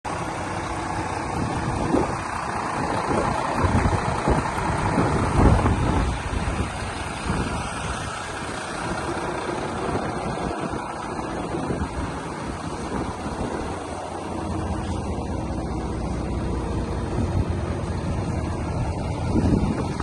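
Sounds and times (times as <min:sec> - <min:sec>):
diesel engine idling: 0:00.1 - 0:20.0
wind gusting on microphone: 0:00.1 - 0:20.0.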